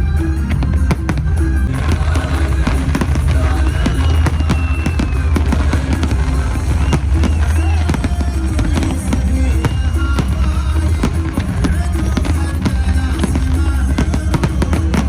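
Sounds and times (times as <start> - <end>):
fireworks bursting and crackling: 0.0 - 15.0
fireworks whistles: 0.0 - 15.0
loud music with heavy bass: 0.0 - 15.0.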